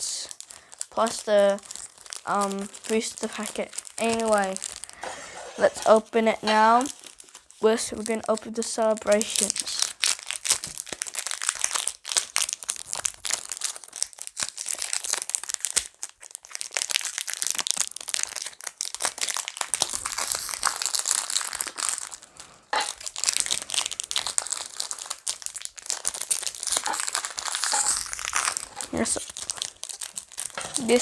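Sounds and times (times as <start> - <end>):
foil wrapper crinkling: 0.0 - 31.0.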